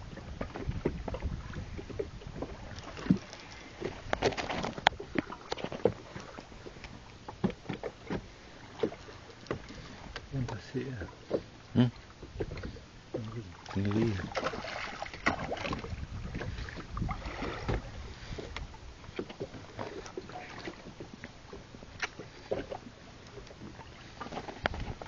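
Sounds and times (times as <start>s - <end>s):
wind and water noise: 0.0s - 25.0s.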